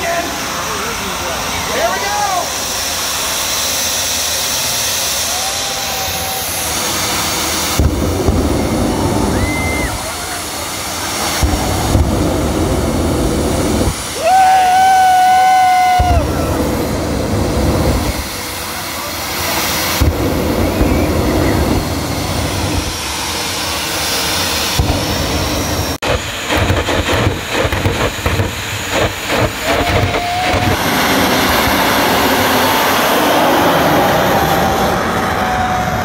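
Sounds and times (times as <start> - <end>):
high turbine whine: 0.0 - 36.0
jet engines roaring: 0.0 - 36.0
afterburner blasts: 2.4 - 36.0.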